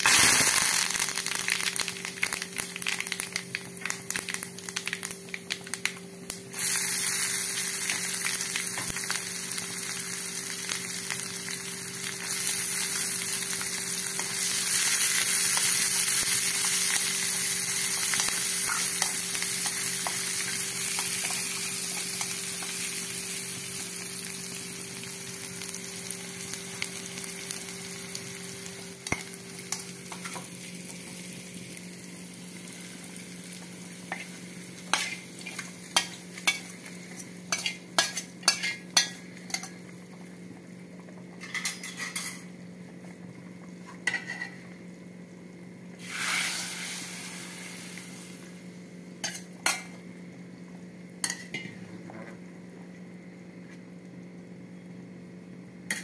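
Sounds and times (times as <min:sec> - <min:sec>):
food sizzling in hot oil: 0:00.0 - 0:42.8, 0:43.5 - 0:51.8, 0:55.8 - 0:56.0
steady low hum: 0:00.0 - 0:56.0.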